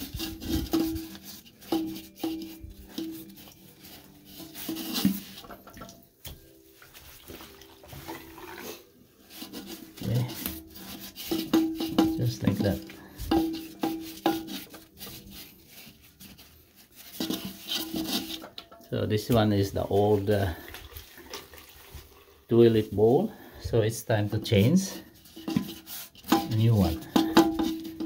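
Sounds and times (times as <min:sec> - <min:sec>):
sponge squeezing in toilet tank: 0:00.0 - 0:18.6, 0:19.2 - 0:23.3.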